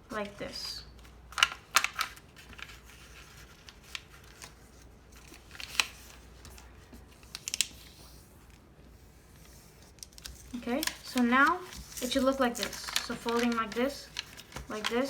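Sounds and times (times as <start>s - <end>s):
paper being folded and creased: 0.1s - 15.0s.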